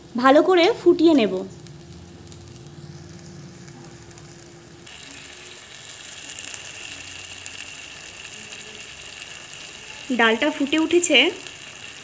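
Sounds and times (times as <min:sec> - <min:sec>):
food bubbling and sizzling: 0:00.0 - 0:12.0.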